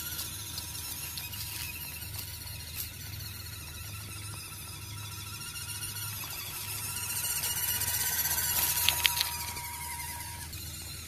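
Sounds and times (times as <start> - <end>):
rc truck electric motor whining: 0.0 - 11.0.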